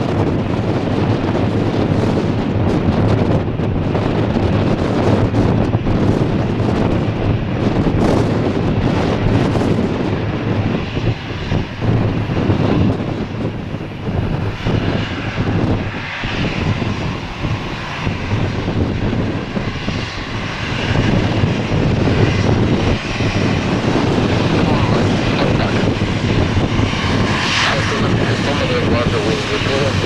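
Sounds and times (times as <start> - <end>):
jet engines running loud: 0.0 - 30.0
wind buffeting microphone: 0.0 - 30.0.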